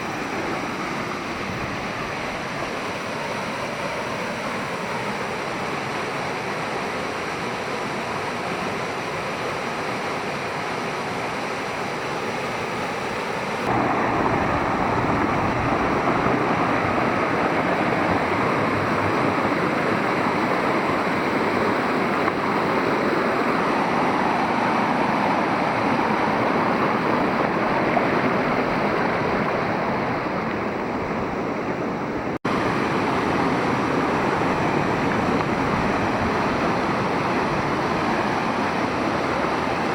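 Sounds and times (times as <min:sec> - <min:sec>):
mountain stream and waterfall rushing: 0:00.0 - 0:39.9.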